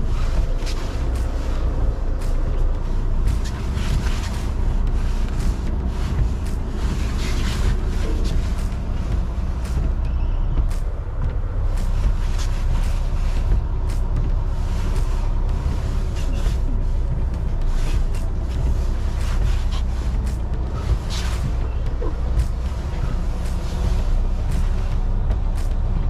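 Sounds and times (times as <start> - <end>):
diesel engine running low: 0.0 - 26.0.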